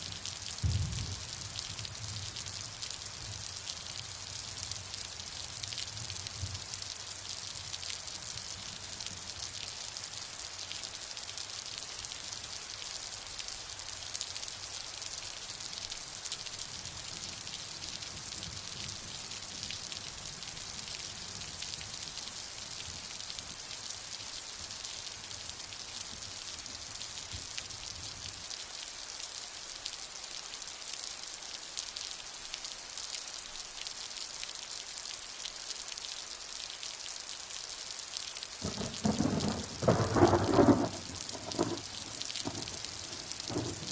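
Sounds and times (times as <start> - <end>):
heavy rain patter: 0.0 - 43.9.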